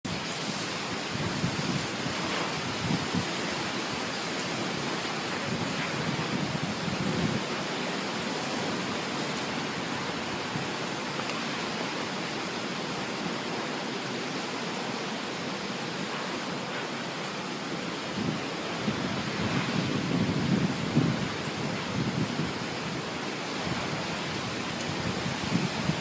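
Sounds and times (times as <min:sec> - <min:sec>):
wind buffeting microphone: 0:00.1 - 0:14.5, 0:15.7 - 0:26.0
strong wind blowing: 0:00.1 - 0:26.0.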